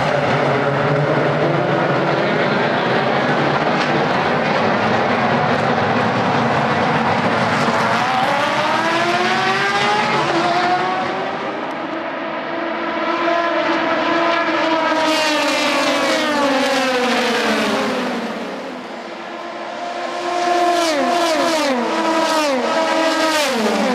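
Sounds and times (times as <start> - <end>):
cars passing close shifting up: 0.0 - 23.9
racing cars accelerating: 0.0 - 23.9.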